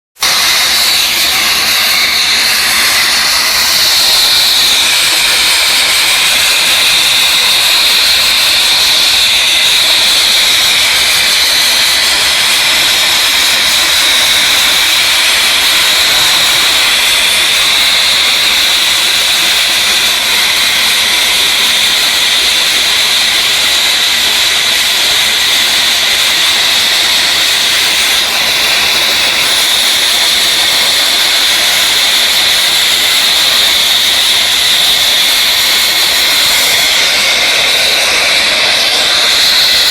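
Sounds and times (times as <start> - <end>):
abrasive blasting hiss: 0.2 - 39.9.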